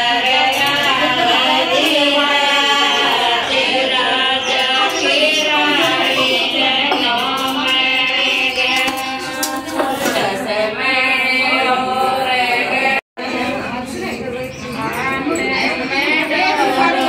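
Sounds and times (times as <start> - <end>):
group of women singing: 0.0 - 17.0.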